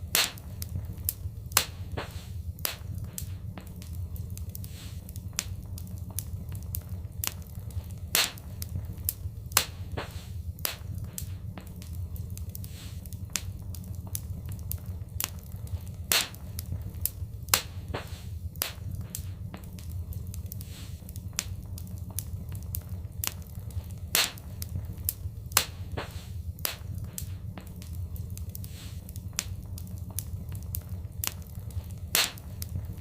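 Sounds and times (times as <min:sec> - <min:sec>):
fire pops and snaps: 0:00.0 - 0:33.0
low rumble of burning fire: 0:00.0 - 0:33.0.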